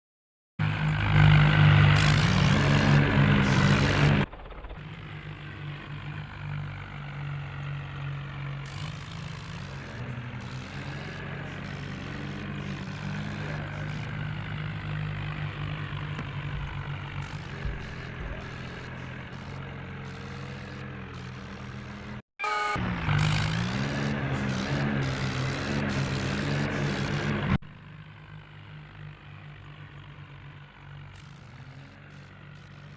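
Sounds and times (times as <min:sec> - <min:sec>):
tractor diesel engine running: 0:00.6 - 0:32.9.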